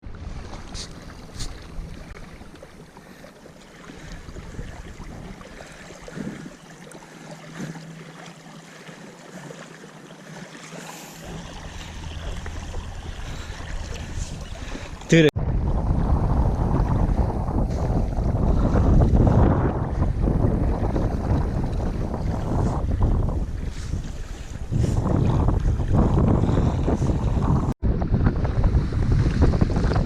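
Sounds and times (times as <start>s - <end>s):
wind buffeting microphone: 0.0s - 3.2s, 3.8s - 6.5s, 11.1s - 30.0s.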